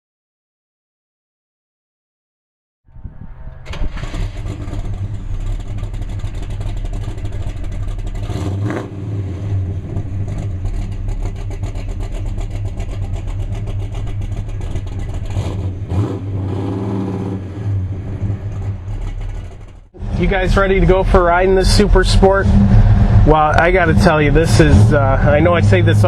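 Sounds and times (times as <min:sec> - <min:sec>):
car engine revving: 0:03.0 - 0:26.0.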